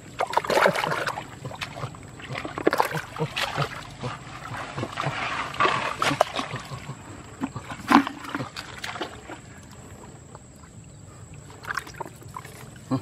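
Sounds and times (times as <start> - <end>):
hands splashing in muddy water: 0.1 - 10.0, 11.6 - 13.0.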